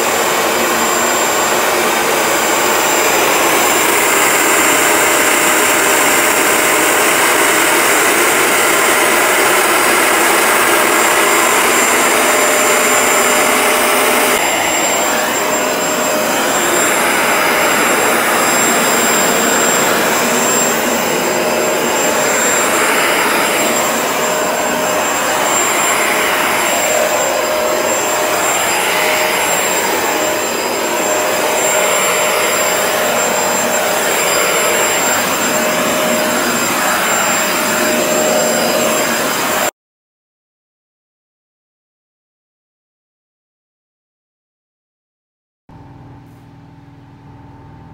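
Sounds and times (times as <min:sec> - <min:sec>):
carpet cleaner motor whine: 0:00.0 - 0:39.7.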